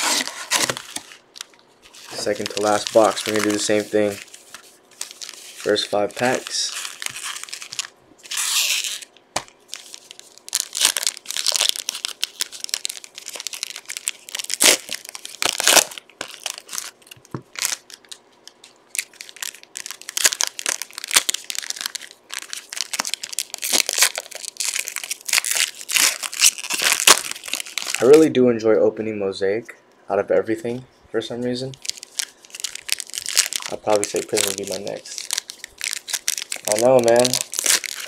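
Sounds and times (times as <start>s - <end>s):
card wrappers crinkling and ripping: 0.0s - 28.2s, 31.6s - 38.0s.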